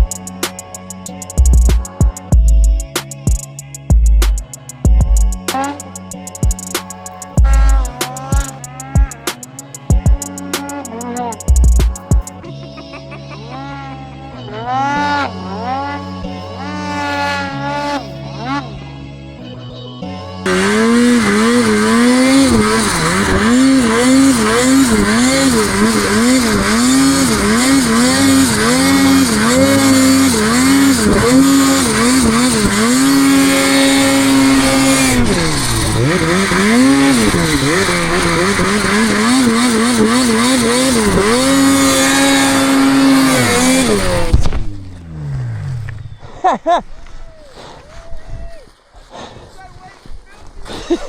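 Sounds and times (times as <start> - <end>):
snowmobile engine revving: 3.9 - 12.8, 13.5 - 18.8, 20.4 - 47.9.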